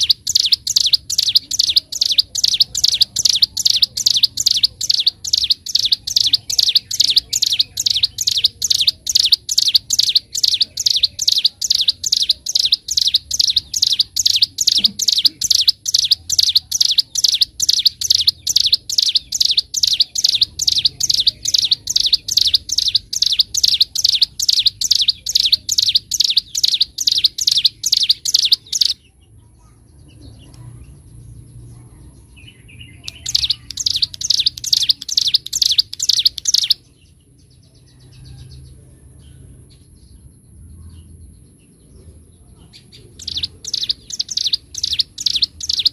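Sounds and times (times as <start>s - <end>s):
bird singing high chirps: 0.0s - 42.1s, 42.7s - 45.9s.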